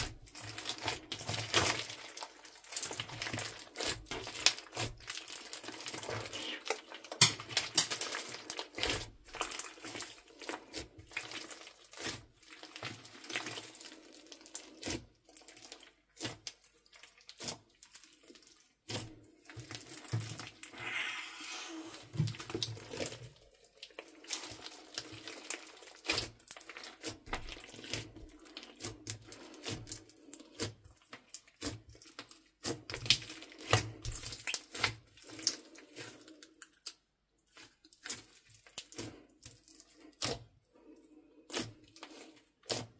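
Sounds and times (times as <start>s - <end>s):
hands squishing crunchy slime: 0.0s - 40.5s.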